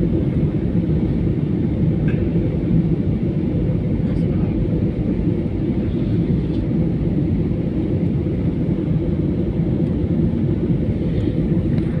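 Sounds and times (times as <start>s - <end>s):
aeroplane engines in flight: 0.0s - 12.0s.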